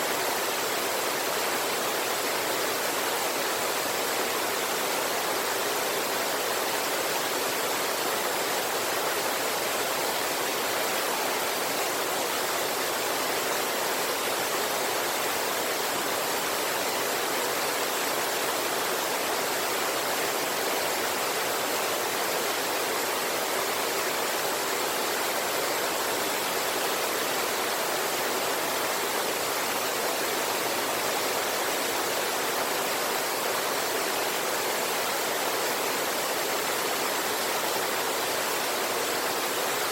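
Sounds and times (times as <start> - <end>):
river water and waterfall rushing: 0.0 - 39.9.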